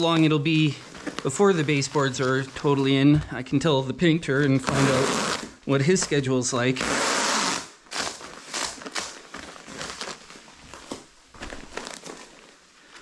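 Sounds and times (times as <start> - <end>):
plastic film crinkling: 0.0 - 3.1, 4.3 - 6.5, 7.4 - 13.0.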